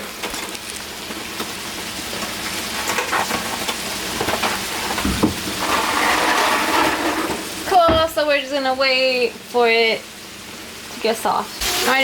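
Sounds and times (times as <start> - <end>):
food hissing on stovetop: 0.6 - 7.8, 8.4 - 12.0.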